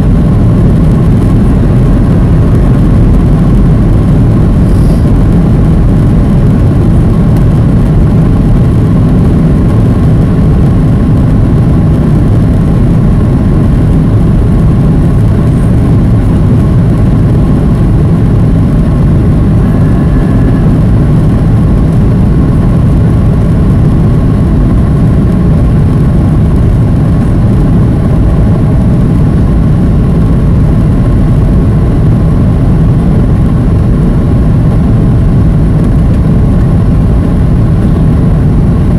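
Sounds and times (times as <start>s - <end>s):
jet engine drone in cabin: 0.0s - 38.9s
rushing airflow: 0.0s - 38.9s.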